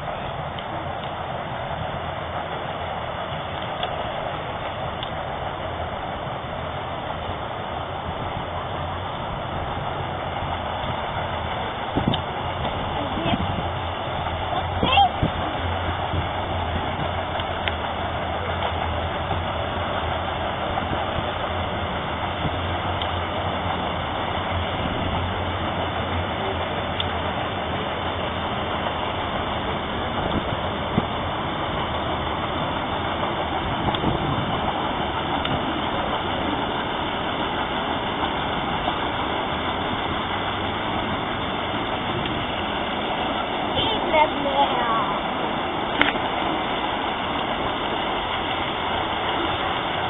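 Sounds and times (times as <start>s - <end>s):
ship engine hum: 0.0s - 50.0s
steady rushing noise: 0.0s - 50.0s.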